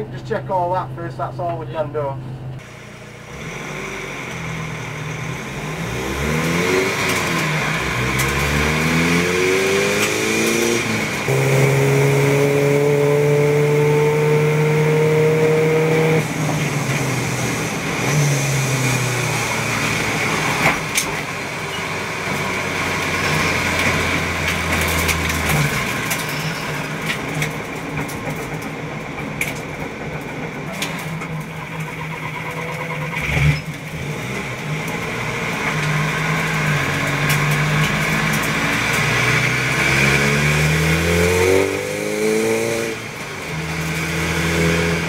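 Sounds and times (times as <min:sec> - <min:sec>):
diesel engine accelerating: 0:00.0 - 0:45.0.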